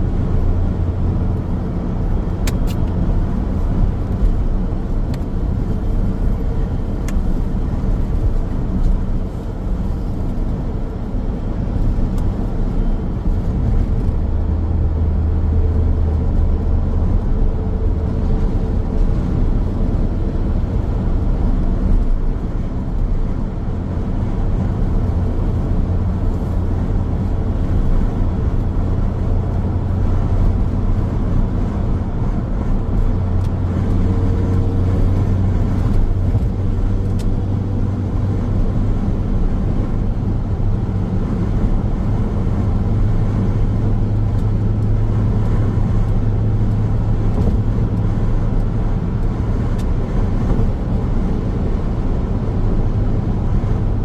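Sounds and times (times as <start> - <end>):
car engine drone: 0.0 - 54.0
tyres rumbling on asphalt: 0.0 - 54.0.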